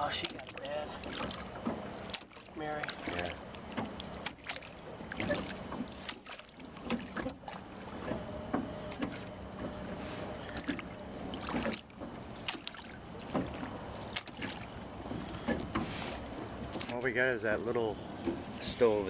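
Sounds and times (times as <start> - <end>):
faint steady hum: 0.0 - 19.0
water splashing against boat hull: 0.0 - 19.0.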